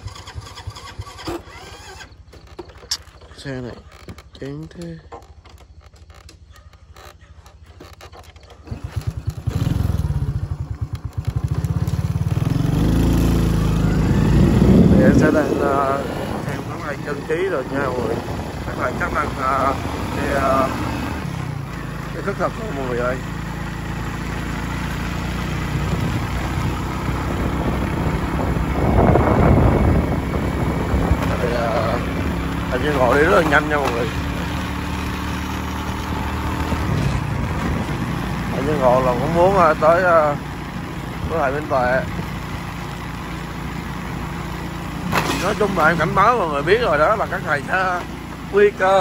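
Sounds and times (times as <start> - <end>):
small motorbike engine: 0.0 - 49.0.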